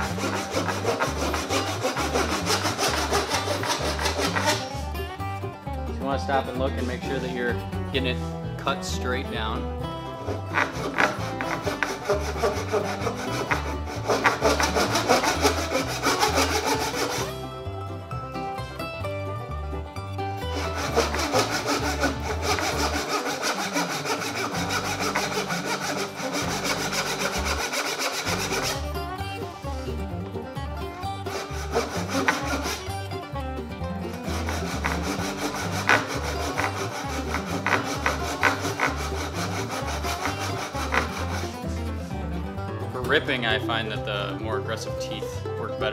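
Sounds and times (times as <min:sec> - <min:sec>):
pull saw cutting wood: 0:00.0 - 0:05.0, 0:06.3 - 0:17.6, 0:20.4 - 0:30.0, 0:30.8 - 0:42.2
background music with bass: 0:00.0 - 0:45.9.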